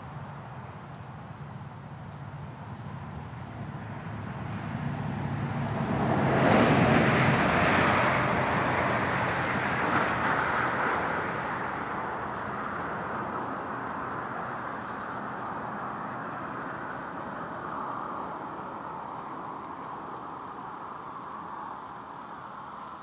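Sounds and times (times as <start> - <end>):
motor vehicle passing by: 2.7 - 22.2.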